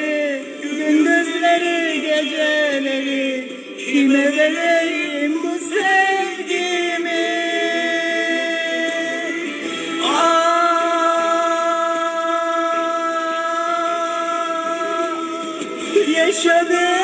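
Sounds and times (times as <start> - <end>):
woman singing into microphone: 0.0 - 17.0.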